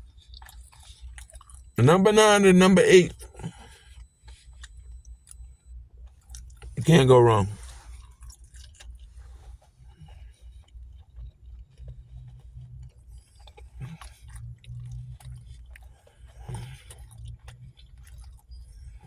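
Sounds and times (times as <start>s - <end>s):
person chewing food: 0.0s - 1.8s, 3.2s - 19.0s.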